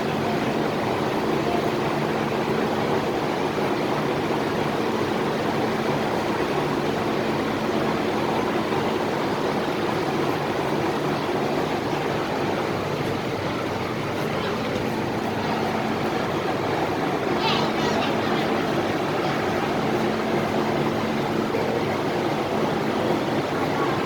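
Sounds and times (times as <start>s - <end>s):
train wheel and running noise: 0.0s - 24.0s.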